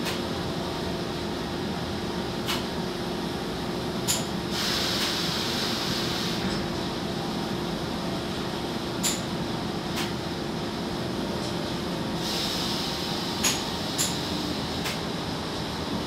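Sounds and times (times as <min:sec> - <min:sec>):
machinery drone and hum: 0:00.0 - 0:16.0.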